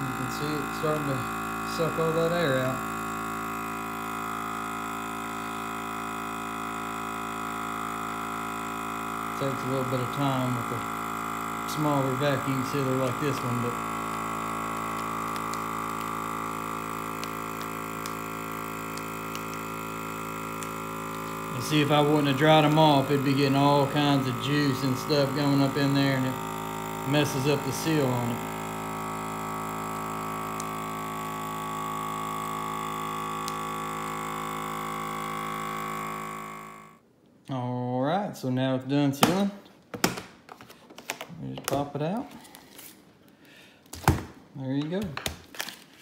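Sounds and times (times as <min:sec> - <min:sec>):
vacuum sealer pump humming: 0:00.0 - 0:37.1, 0:39.2 - 0:46.0.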